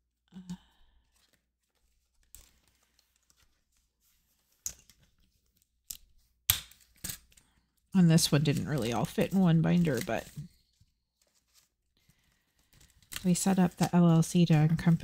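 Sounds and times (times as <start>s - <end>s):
paper rustling: 1.0s - 15.0s.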